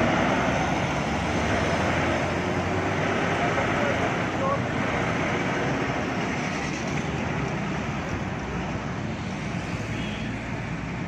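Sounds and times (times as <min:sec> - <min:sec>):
heavy vehicle engines rumbling: 0:00.0 - 0:11.0.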